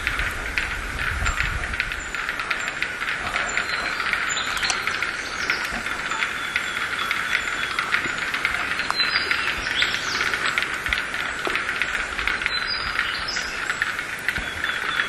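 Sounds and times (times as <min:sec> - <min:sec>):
dense hiss with fast clicks: 0:00.0 - 0:15.0
wild birds calling: 0:00.0 - 0:15.0.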